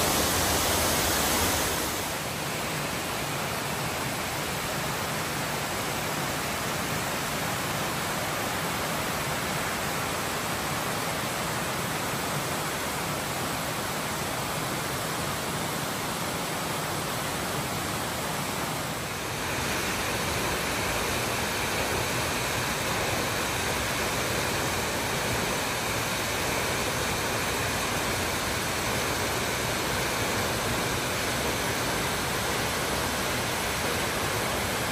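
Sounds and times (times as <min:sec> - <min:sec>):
waterfall rushing over rock: 0:00.0 - 0:34.9.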